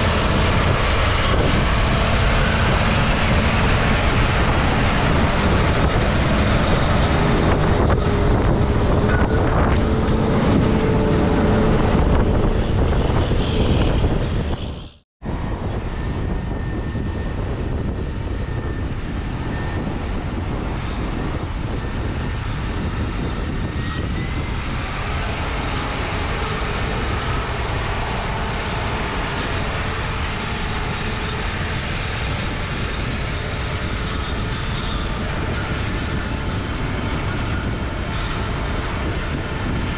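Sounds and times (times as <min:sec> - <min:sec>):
harvesting machinery running: 0:00.0 - 0:14.9, 0:20.4 - 0:39.9
tractor diesel engines: 0:00.0 - 0:39.9.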